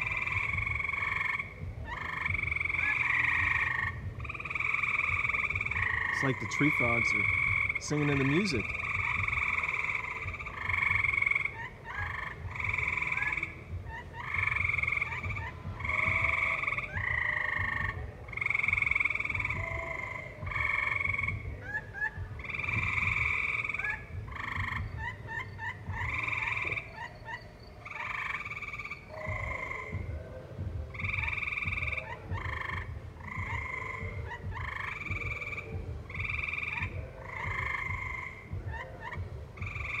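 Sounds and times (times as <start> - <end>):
tree frogs calling: 0.0 - 40.0.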